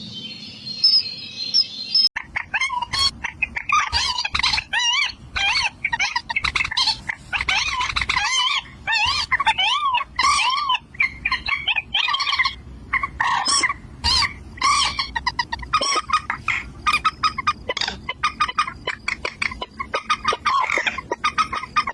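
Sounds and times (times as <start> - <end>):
birds calling: 0.0 - 21.9.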